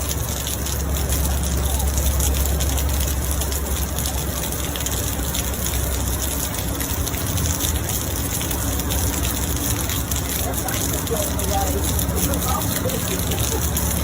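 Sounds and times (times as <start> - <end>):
floodwater rushing: 0.0 - 14.0
rain: 0.0 - 14.0.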